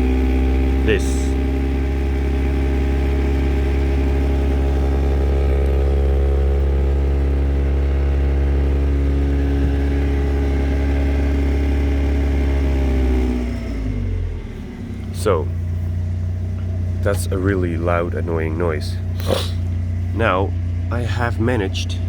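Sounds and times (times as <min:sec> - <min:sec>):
loud rattle under dashboard: 0:00.0 - 0:13.3, 0:15.1 - 0:22.0
car engine running: 0:00.0 - 0:22.0.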